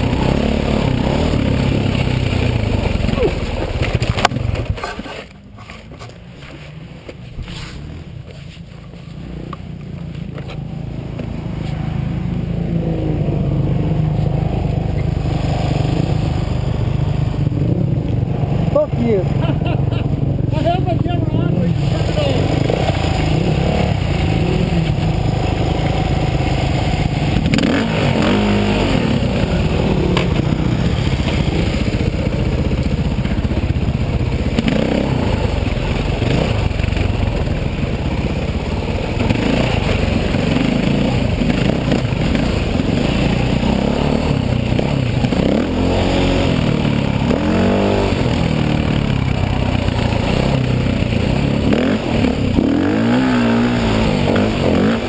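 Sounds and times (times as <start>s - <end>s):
dirt bike engine revving: 0.0s - 5.3s, 10.7s - 55.0s.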